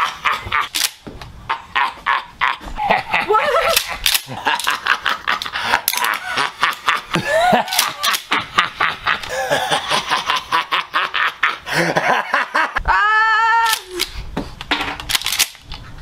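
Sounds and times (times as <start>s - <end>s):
person laughing: 0.0s - 0.9s, 1.5s - 14.0s.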